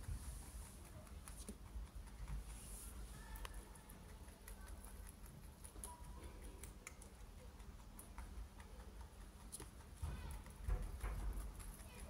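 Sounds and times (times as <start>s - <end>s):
rabbit chewing hay: 0.0s - 12.0s.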